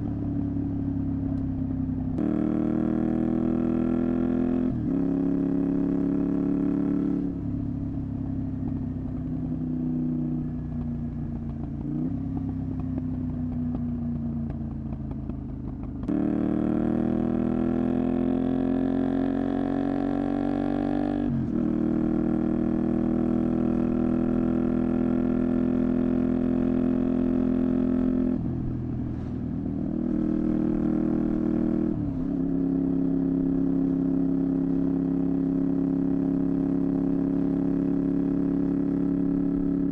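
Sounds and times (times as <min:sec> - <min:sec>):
motorcycle engine revving: 0:02.2 - 0:39.9.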